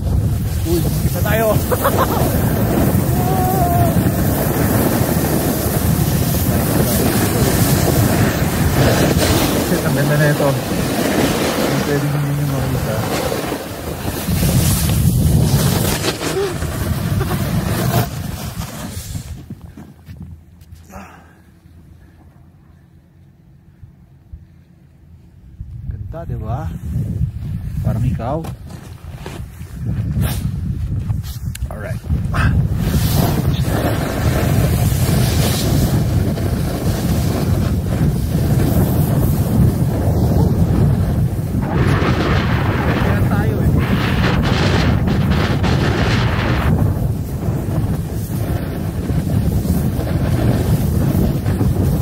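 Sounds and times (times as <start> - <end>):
wind buffeting microphone: 0.0 - 20.6, 25.4 - 52.0.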